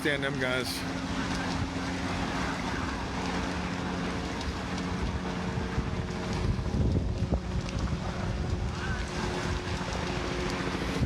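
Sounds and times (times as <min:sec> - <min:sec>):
engine drone: 0:00.0 - 0:11.0
wind buffeting microphone: 0:00.0 - 0:11.0
low rumble: 0:00.9 - 0:11.0.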